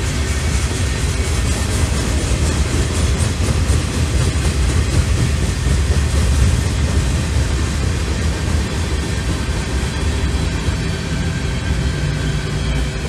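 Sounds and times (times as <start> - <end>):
freight train wheels rolling: 0.0 - 13.0.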